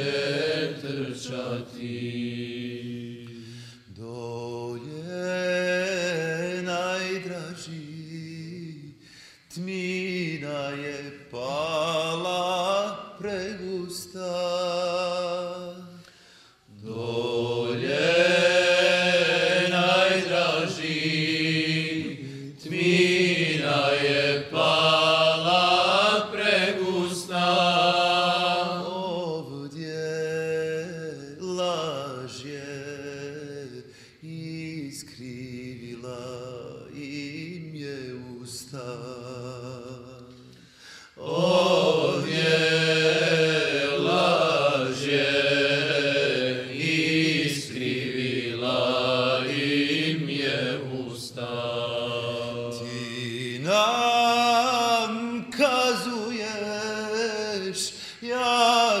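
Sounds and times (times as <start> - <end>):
men singing a hymn: 0.0 - 16.1, 16.7 - 40.5, 41.1 - 59.0.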